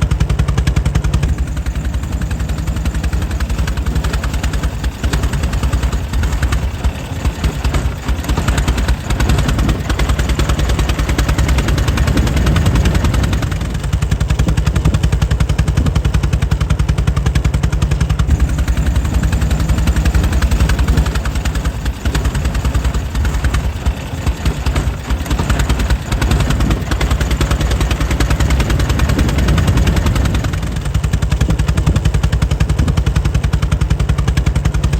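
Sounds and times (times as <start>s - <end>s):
engine running with firing pulses: 0.0s - 34.9s.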